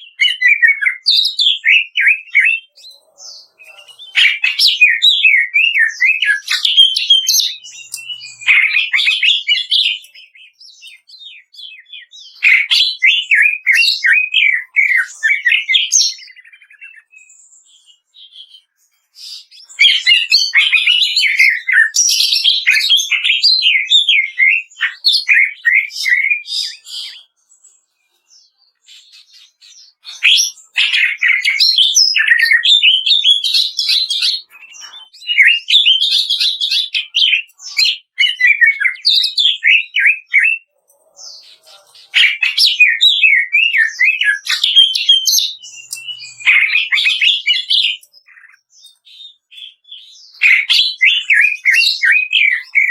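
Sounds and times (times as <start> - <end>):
bird singing fast chattering song: 0.0 - 52.9.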